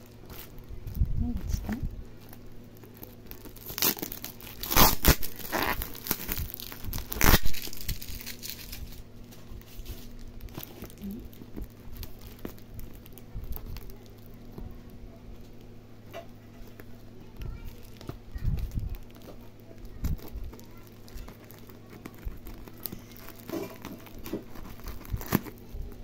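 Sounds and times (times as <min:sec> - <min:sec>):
plastic wrapping crinkling and ripping: 0:00.0 - 0:26.0.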